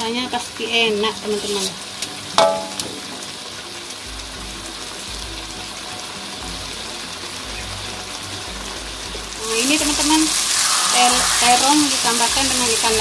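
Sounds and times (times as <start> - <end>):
faint background music: 0.0 - 13.0
food sizzling in a wok: 0.0 - 13.0.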